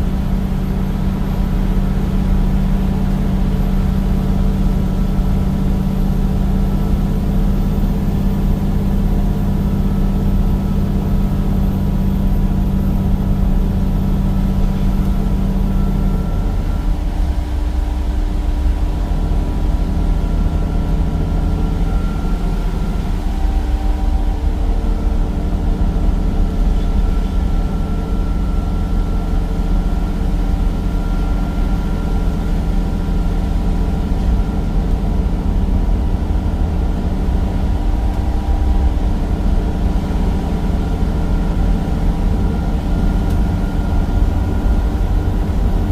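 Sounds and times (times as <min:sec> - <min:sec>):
bus diesel engine running: 0:00.0 - 0:45.9
faint high whine: 0:00.0 - 0:45.9.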